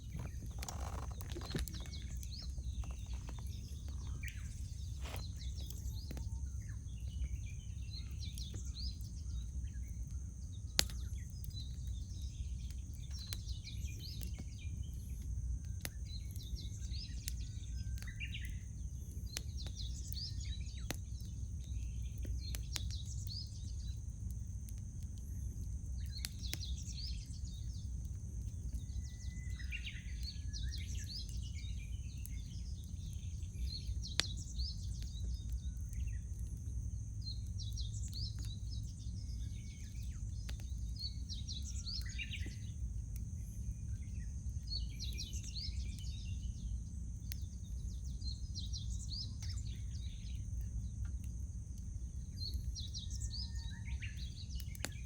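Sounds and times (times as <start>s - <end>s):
campfire pops and crackles: 0.0s - 55.0s
songbirds singing: 0.0s - 55.0s.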